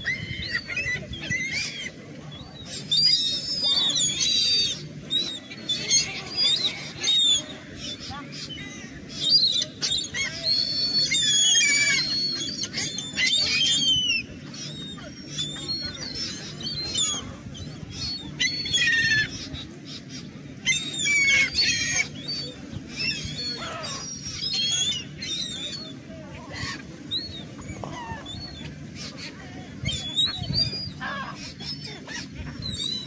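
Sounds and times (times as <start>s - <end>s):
seagulls squawking: 0.0s - 33.0s.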